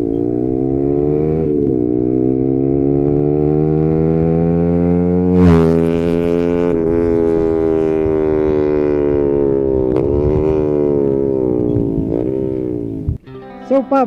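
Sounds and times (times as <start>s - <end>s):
motorcycle engine droning: 0.0s - 14.0s.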